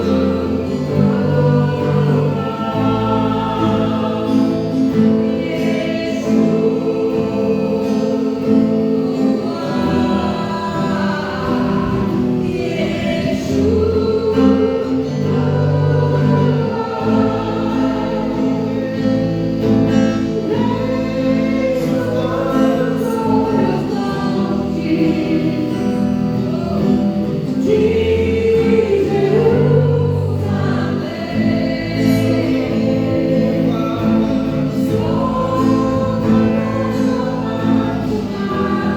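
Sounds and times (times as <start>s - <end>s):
group singing gospel song: 0.0s - 38.9s.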